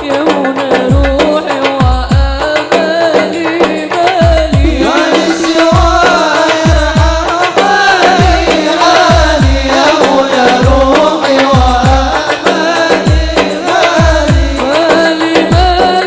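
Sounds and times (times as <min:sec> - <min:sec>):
devotional singing: 0:00.0 - 0:16.0
hand drums: 0:00.0 - 0:16.0.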